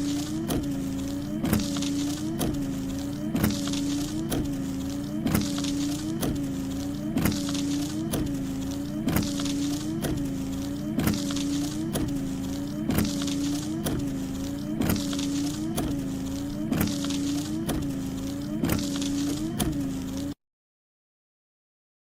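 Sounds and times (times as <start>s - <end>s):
motor clicks: 0.0s - 20.4s
small electric motor whine: 0.0s - 20.4s.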